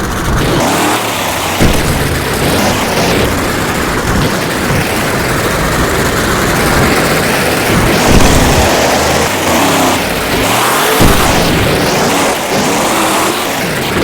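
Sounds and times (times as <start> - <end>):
monster truck engine running: 0.0 - 14.0.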